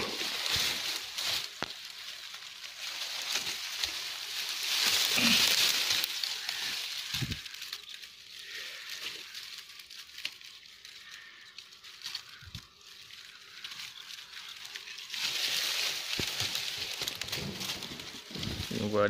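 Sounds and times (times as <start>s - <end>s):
brush and twigs rustling: 0.0s - 19.0s.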